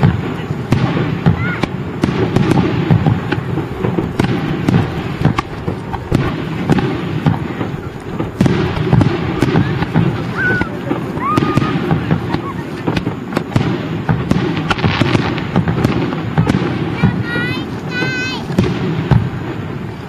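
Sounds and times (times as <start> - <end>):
fireworks booming and cracking: 0.0 - 20.0
fireworks whistles: 0.0 - 20.0.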